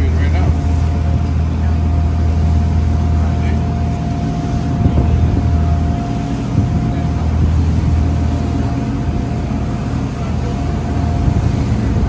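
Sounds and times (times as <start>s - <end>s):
boat engine droning: 0.0s - 12.0s
faint steady engine whine: 0.0s - 12.0s.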